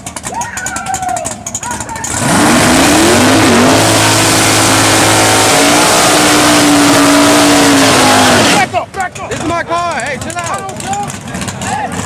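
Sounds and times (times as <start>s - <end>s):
drag car engines at full throttle: 0.0s - 12.0s.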